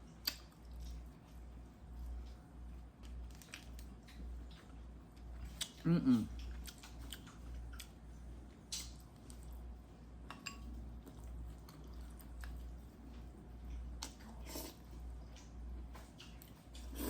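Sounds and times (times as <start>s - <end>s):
person chewing food: 0.0s - 17.0s
steady low hum: 0.0s - 17.0s.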